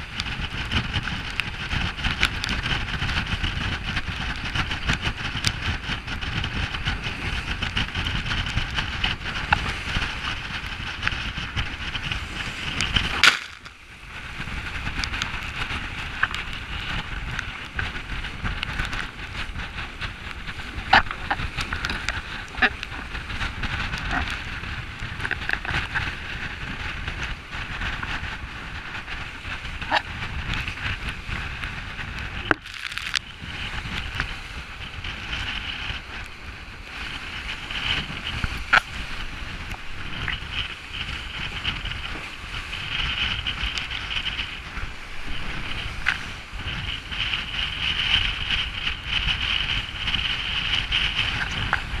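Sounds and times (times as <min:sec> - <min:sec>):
water rushing along hulls: 0:00.0 - 0:52.0
wind buffeting microphone: 0:00.0 - 0:52.0.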